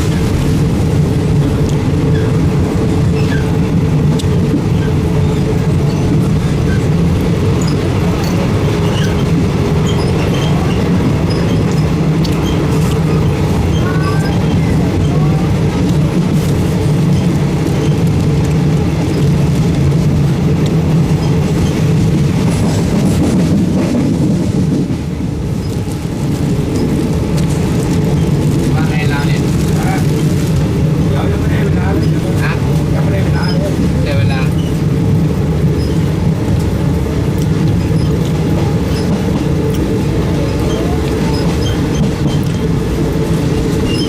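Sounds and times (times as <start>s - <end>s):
train carriage rumble and rattle: 0.0s - 44.0s
wheels clattering over rails: 0.0s - 44.0s.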